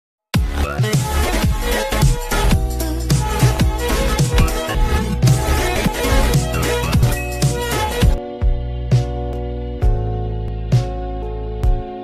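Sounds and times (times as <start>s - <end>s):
electronic music with heavy kick drum: 0.4s - 12.0s.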